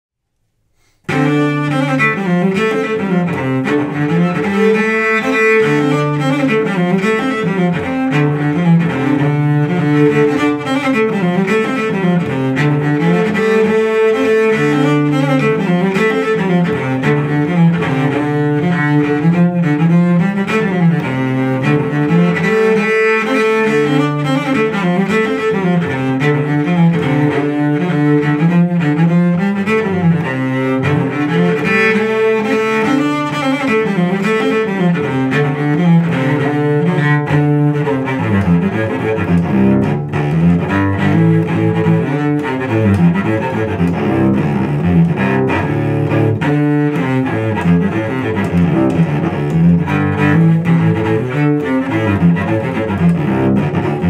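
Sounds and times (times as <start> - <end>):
solo cello bowing a fiddle tune: 0.6 - 54.0.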